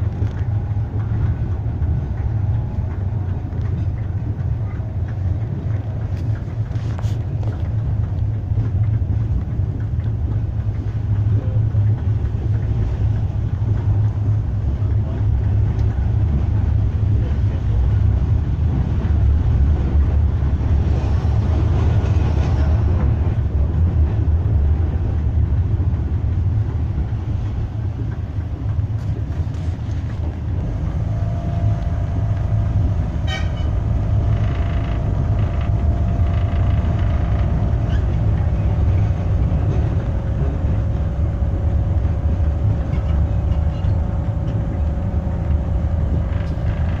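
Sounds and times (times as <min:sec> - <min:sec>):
steady whine: 0:00.0 - 0:47.0
tram rumbling on rails: 0:00.0 - 0:47.0.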